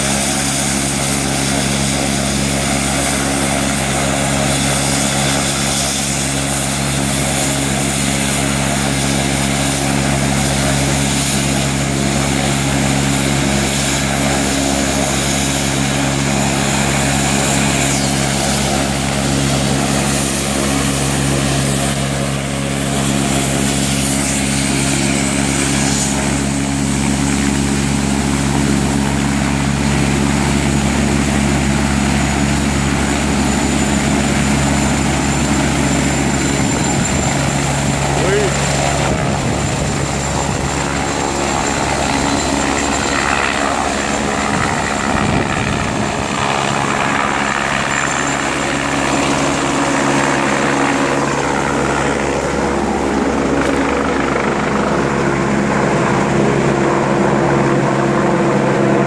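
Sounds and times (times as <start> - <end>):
helicopter engine and rotor idling: 0.0 - 59.0.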